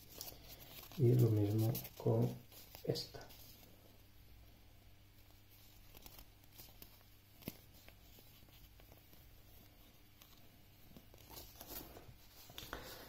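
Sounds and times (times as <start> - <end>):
paper rustling: 0.0 - 3.8, 5.2 - 13.0.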